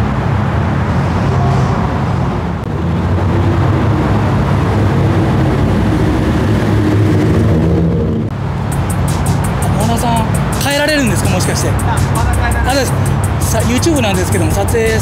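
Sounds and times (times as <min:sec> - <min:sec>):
car engine running: 0:02.6 - 0:15.0.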